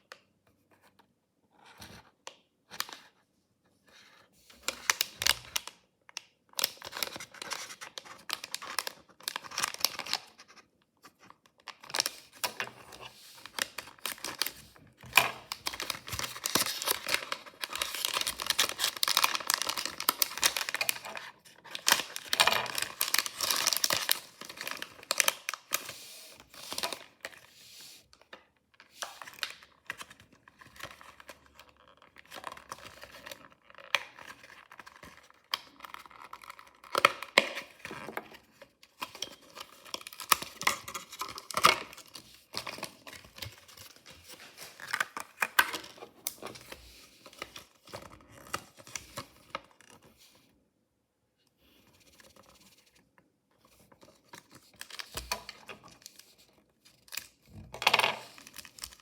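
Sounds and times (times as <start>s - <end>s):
packaging crinkling and tearing: 4.6s - 5.8s, 6.5s - 10.6s, 11.2s - 27.6s, 28.8s - 50.1s, 53.9s - 59.0s.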